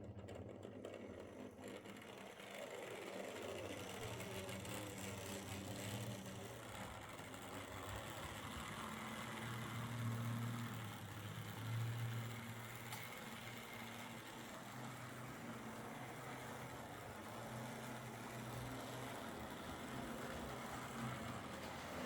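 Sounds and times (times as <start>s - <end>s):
model locomotive motor humming: 0.0s - 22.0s.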